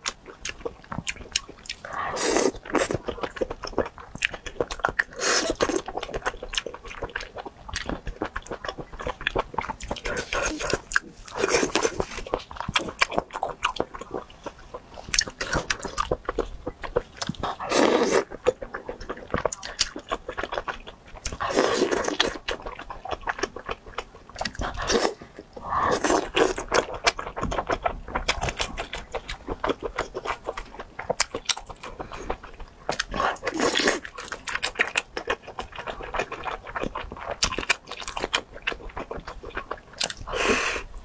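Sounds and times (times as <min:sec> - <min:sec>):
close chewing mouth sounds: 0:00.0 - 0:41.0.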